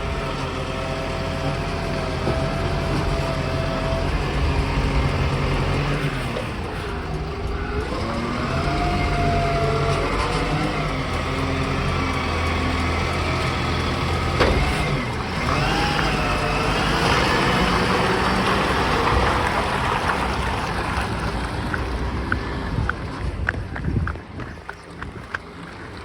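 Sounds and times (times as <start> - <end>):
garbage truck engine running: 0.0 - 26.0.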